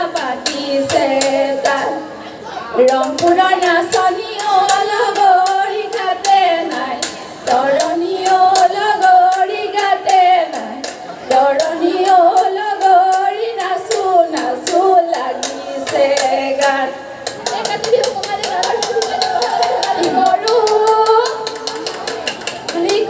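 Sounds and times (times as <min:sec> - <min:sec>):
women singing in unison: 0:00.0 - 0:21.8, 0:22.7 - 0:23.0.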